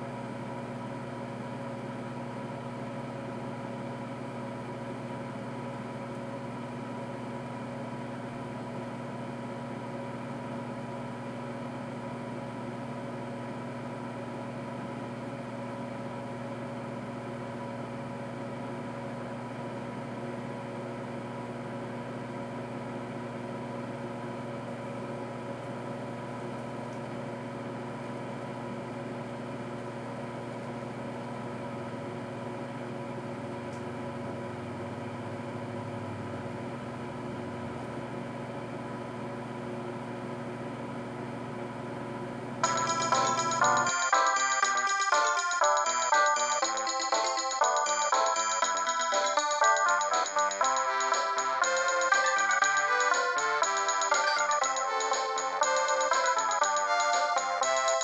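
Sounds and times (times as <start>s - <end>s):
microwave oven humming: 0.0s - 58.0s.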